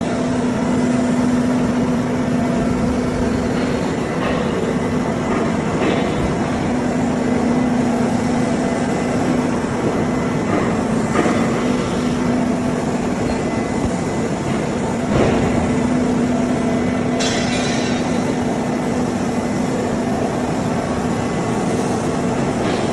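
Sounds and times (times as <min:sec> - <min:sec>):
loader machine humming: 0:00.0 - 0:22.9.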